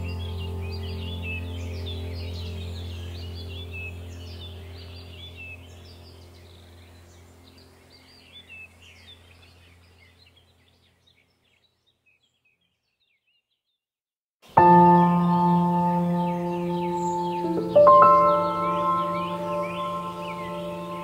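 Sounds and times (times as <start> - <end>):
low steady hum: 0.0 - 10.9, 14.6 - 21.0
birds chirping: 0.0 - 13.6, 14.5 - 21.0.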